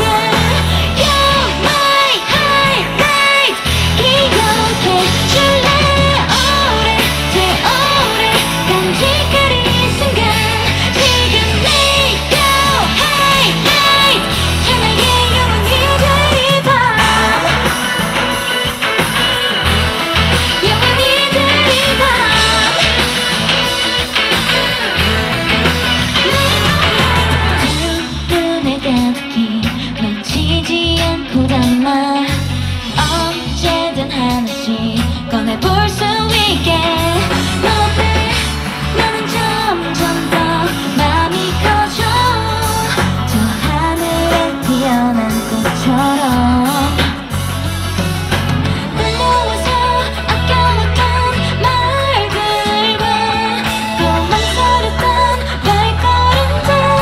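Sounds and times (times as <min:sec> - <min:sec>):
woman singing into a microphone: 0:00.0 - 0:18.4, 0:20.2 - 0:24.2, 0:26.2 - 0:47.4, 0:48.8 - 0:57.0
bass line: 0:00.0 - 0:57.0
rock band playing: 0:00.0 - 0:57.0.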